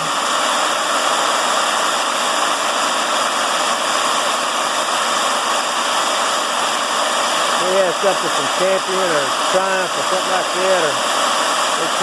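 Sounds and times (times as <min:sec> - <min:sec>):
electric drill running: 0:00.0 - 0:12.0.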